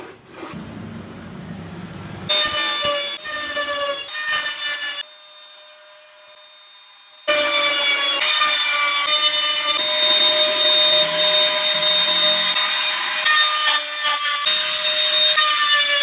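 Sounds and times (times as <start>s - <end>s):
saw cutting wood: 0.0s - 5.0s, 7.4s - 16.0s.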